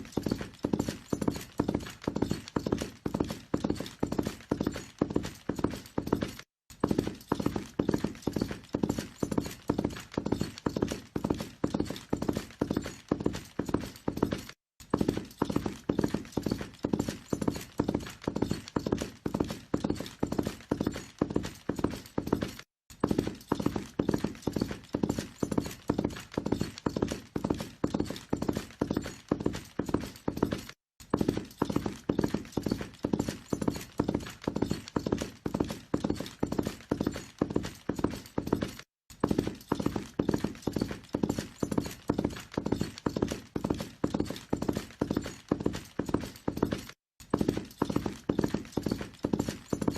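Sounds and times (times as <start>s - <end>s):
horse hooves galloping: 0.0s - 49.9s.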